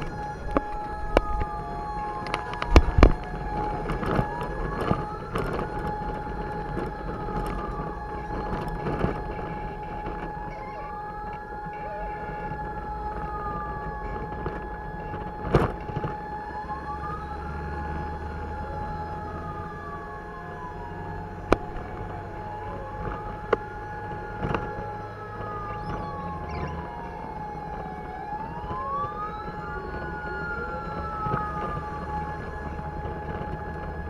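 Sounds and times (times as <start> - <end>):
fire truck siren wailing: 0.0 - 34.0
truck rumble: 0.0 - 34.0.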